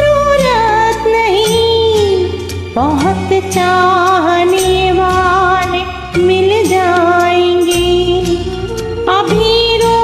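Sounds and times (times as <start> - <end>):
instrumental melody line: 0.0 - 10.0
steady bass: 0.0 - 10.0.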